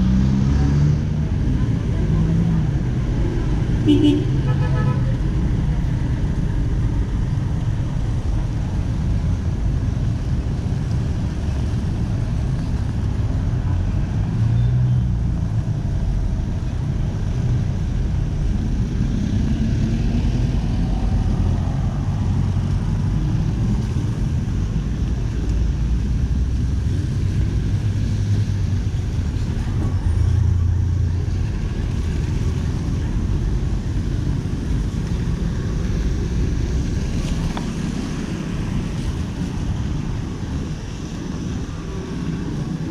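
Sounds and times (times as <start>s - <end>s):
traffic rumble: 0.0s - 42.9s.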